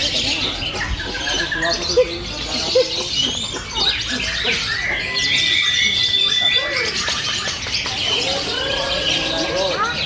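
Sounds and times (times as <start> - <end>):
long high-pitched bird song: 0.0 - 10.0
lovebirds chirping and squawking: 0.0 - 10.0.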